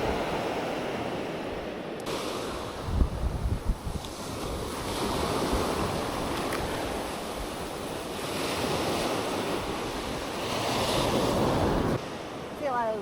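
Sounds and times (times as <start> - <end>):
wind buffeting microphone: 0.0 - 12.0
ocean surf breaking: 0.0 - 13.0.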